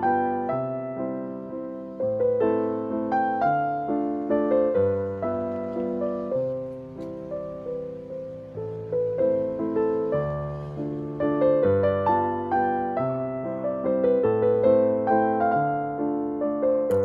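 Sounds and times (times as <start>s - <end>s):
slow gentle piano music: 0.0s - 17.0s.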